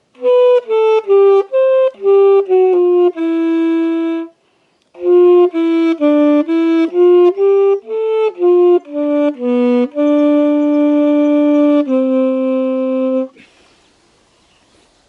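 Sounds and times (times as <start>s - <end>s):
solo wind instrument melody: 0.0s - 13.4s.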